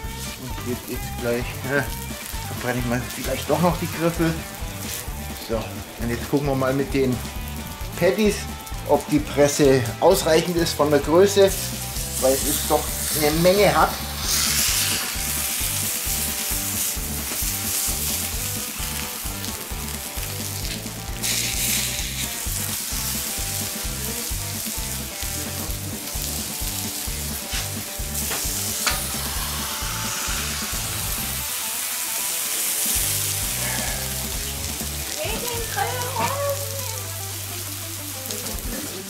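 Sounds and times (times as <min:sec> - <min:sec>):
music with steady bass beat: 0:00.0 - 0:31.6, 0:33.0 - 0:38.8
food sizzling on hot plate: 0:00.0 - 0:39.0.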